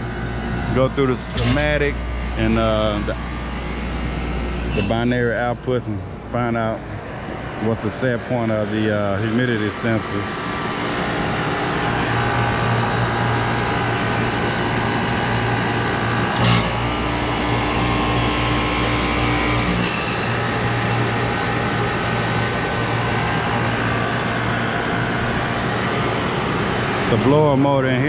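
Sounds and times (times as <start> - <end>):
deeper hum: 0.0 - 28.0
hvac equipment humming: 0.0 - 28.0.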